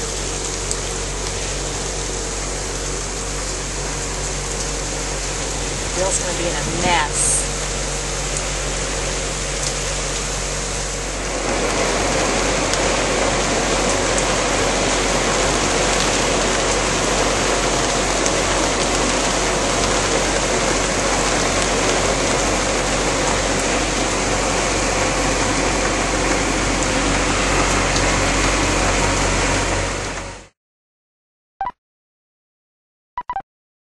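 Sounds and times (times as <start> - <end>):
steady low hum: 0.0 - 30.2
heavy rain falling: 0.0 - 30.5.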